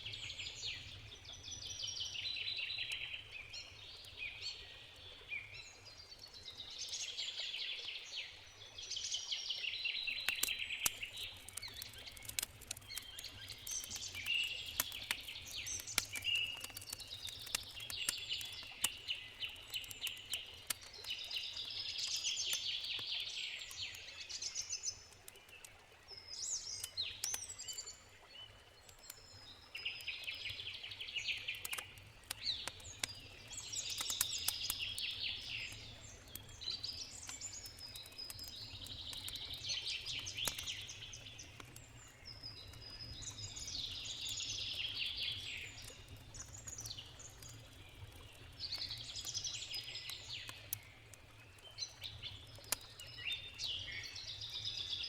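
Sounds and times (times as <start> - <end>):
songbirds singing: 0.0 - 55.0
campfire crackling and popping: 10.0 - 55.0.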